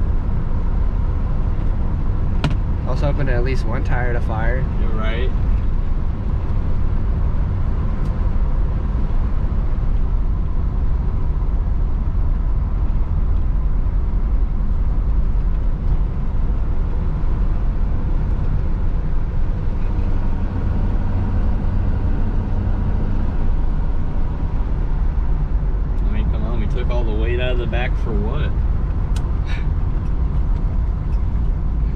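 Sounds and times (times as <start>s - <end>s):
car engine running while driving: 0.0s - 31.9s.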